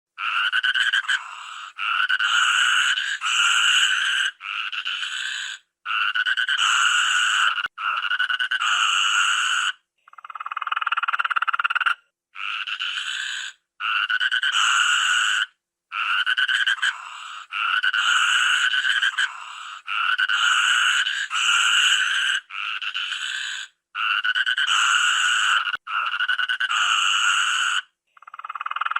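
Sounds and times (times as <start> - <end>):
toucan rattling croaks: 0.2 - 28.9.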